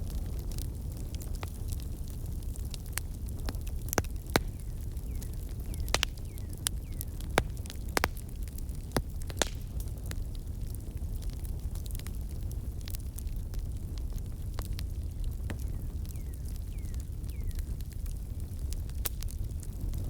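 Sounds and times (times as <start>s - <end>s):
campfire crackling and popping: 0.0s - 20.0s
low rumble of burning: 0.0s - 20.0s.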